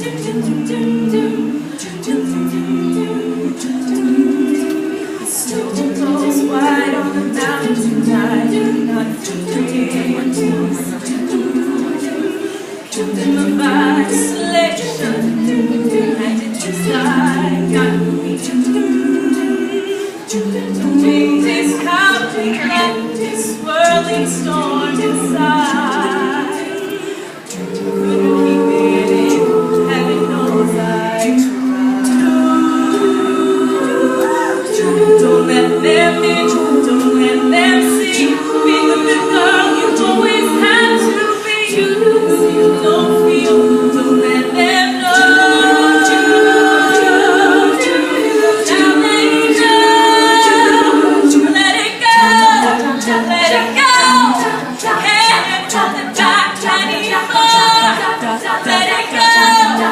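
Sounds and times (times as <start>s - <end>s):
female a cappella group singing: 0.0s - 59.9s.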